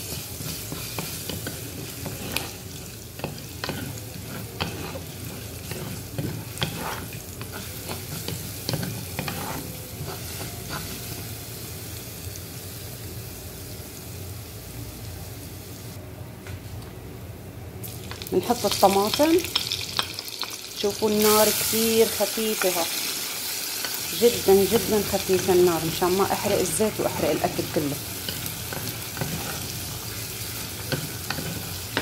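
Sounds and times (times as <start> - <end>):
garlic sizzling in oil: 0.0 - 14.7, 17.8 - 32.0.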